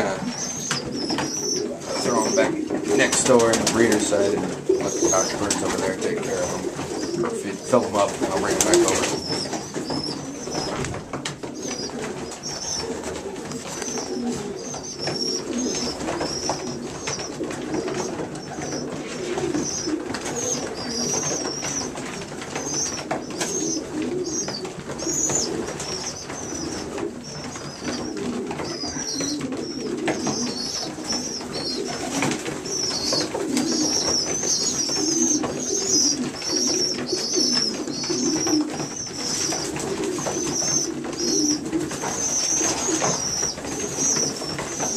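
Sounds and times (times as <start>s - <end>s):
pigeons cooing: 0.0s - 44.9s
young pigeons squeaking: 0.0s - 44.9s.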